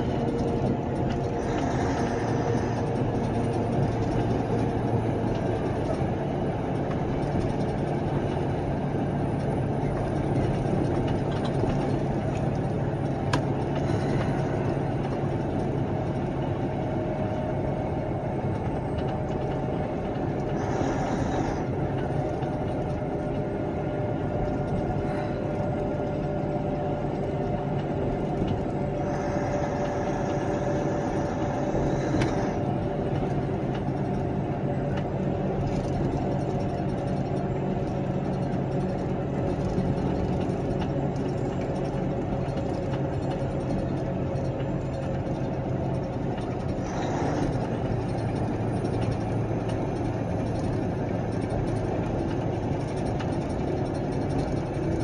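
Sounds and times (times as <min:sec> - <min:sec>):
engine drone and road noise: 0:00.0 - 0:55.0.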